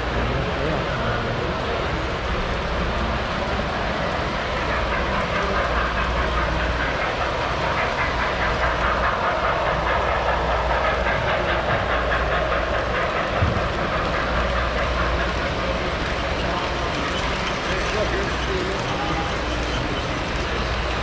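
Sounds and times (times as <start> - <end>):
model train wheels clattering: 1.9 - 21.0.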